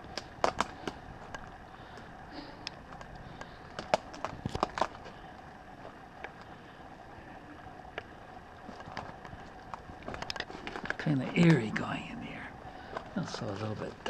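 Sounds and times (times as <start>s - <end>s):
faint steady hum: 0.0s - 14.0s
sharp crackles: 0.0s - 14.0s.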